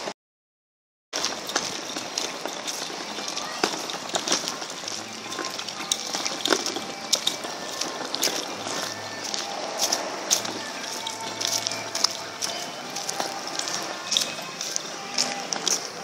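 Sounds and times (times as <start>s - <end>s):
footsteps on paved path: 1.2s - 16.0s.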